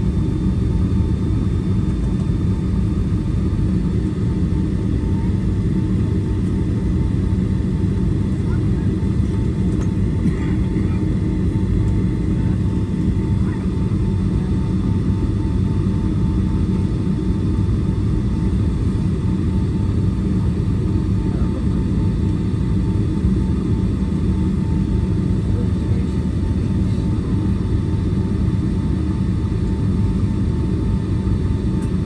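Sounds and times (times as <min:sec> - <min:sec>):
airliner cabin low rumble: 0:00.0 - 0:32.0.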